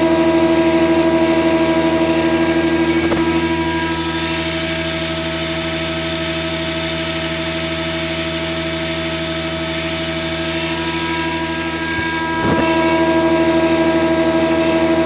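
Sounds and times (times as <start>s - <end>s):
gearbox machine hum: 0.0s - 15.0s.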